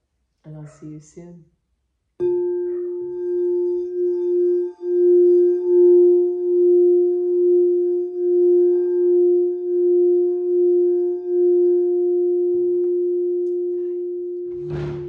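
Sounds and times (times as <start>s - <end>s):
singing bowl ringing: 2.2s - 15.0s.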